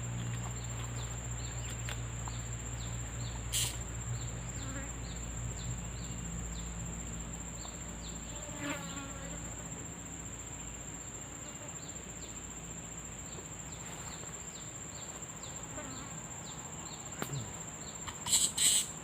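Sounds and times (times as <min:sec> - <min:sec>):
insect buzzing: 0:00.0 - 0:19.0.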